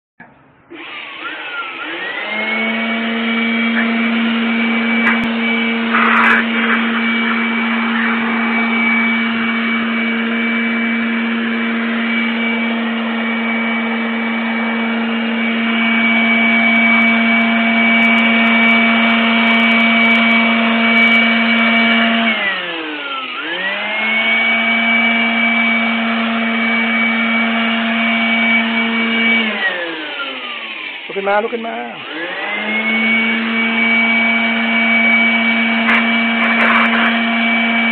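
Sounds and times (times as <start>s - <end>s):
electric blower motor whine: 0.7s - 37.9s.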